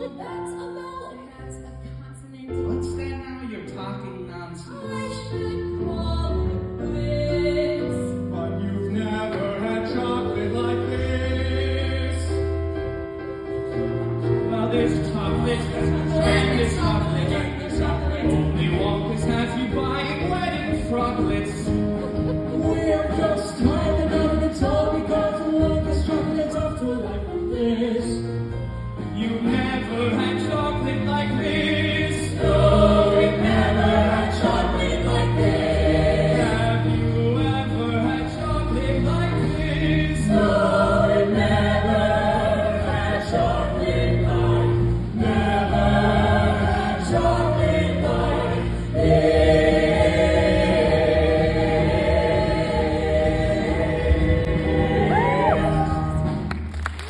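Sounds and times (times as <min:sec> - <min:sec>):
instrumental backing: 0:00.0 - 0:57.0
choir singing: 0:04.8 - 0:12.7, 0:14.4 - 0:28.3, 0:29.2 - 0:56.3.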